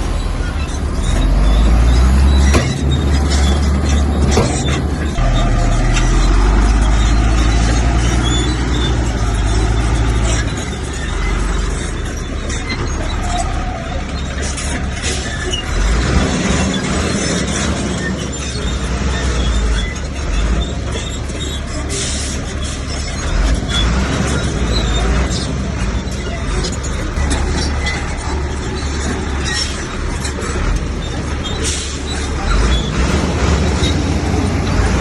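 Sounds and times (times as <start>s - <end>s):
bulldozer diesel engine running: 0.0s - 35.0s
metallic clanks and knocks: 1.1s - 35.0s.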